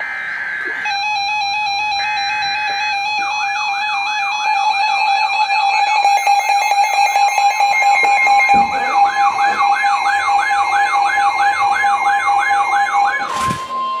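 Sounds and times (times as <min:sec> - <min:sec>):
electronic siren warbling: 0:00.0 - 0:14.0
steady high pulsing tone: 0:00.0 - 0:14.0.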